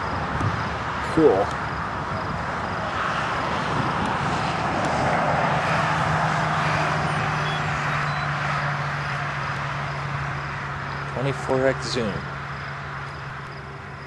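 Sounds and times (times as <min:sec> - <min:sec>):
distant vehicle rushing: 0:00.0 - 0:14.0.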